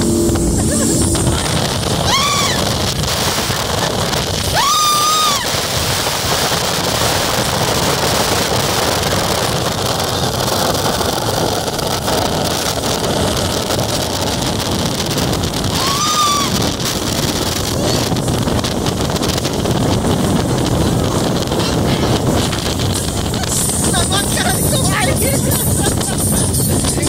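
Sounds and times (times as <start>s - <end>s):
motorboat engine: 0.0s - 27.0s
rushing water: 0.0s - 27.0s
wind buffeting microphone: 0.0s - 27.0s.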